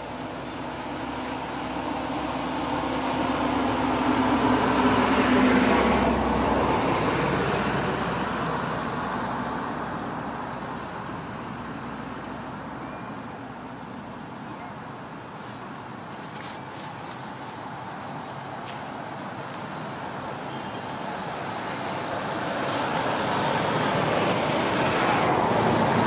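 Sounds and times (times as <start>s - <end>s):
vehicle passing by: 0.0s - 11.9s, 16.9s - 26.0s.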